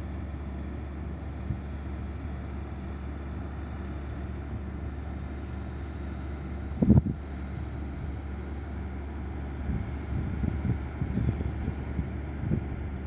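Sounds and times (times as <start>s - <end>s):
heavy diesel machinery engine drone: 0.0s - 13.0s.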